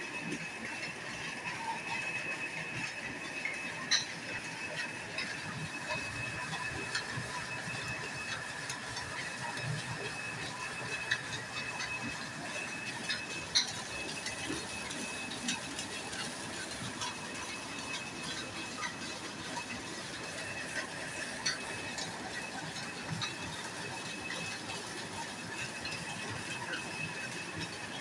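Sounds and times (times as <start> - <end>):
oil press whirring: 0.2 - 28.0.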